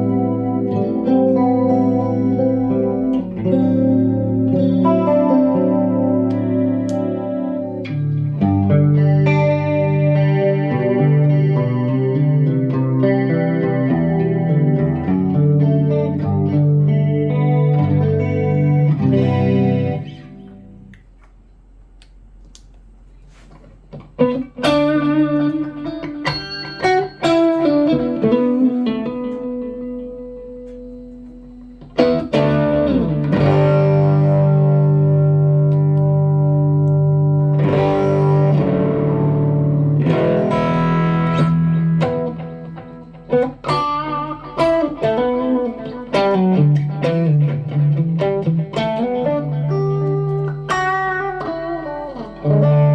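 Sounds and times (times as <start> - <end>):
electric guitar picked notes: 0.0 - 21.1, 23.9 - 52.9
electric guitar chords: 0.0 - 21.3, 22.6 - 52.9.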